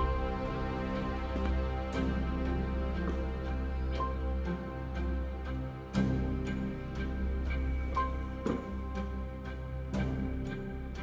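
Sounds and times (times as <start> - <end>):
soft sad background music: 0.0 - 11.0.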